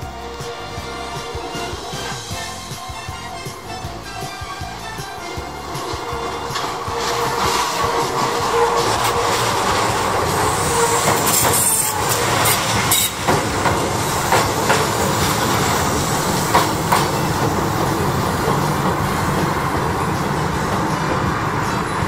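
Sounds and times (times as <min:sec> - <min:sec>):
train wheels rumbling on rail: 0:00.0 - 0:22.0
wheels clacking over rail joints: 0:00.0 - 0:22.0.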